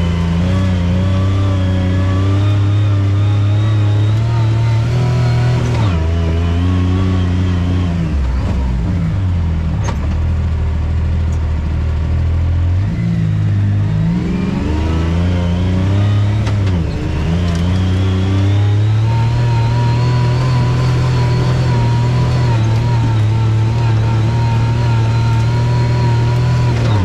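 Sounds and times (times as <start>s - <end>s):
off-road vehicle engine running: 0.0s - 27.0s.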